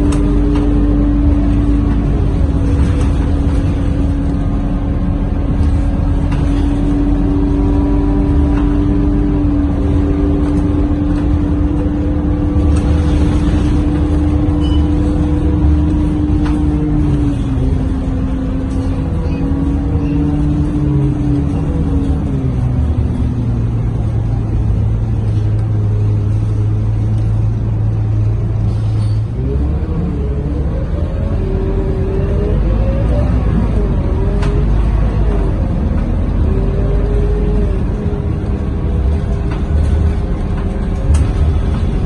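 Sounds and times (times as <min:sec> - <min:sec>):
bus diesel engine drone with whine: 0:00.0 - 0:42.0.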